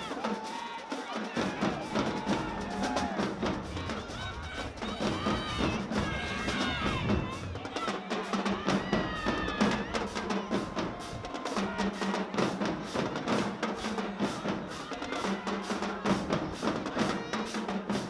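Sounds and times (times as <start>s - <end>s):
marching drumline cadence: 0.0s - 18.0s.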